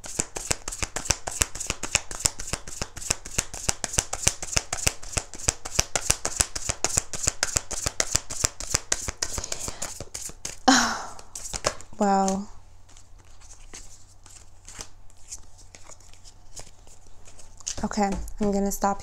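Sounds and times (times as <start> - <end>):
cards shuffling snaps: 0.0 - 10.6, 11.2 - 17.9.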